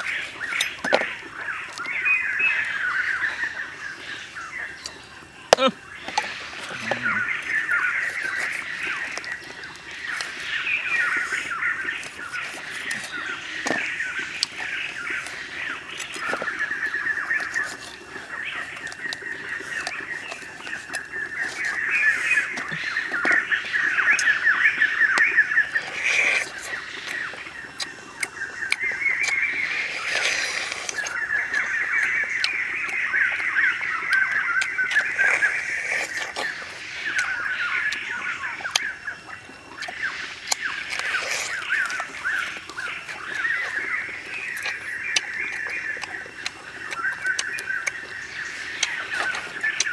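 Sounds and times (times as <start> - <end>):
night chorus of trilling calls: 0.0 - 49.9.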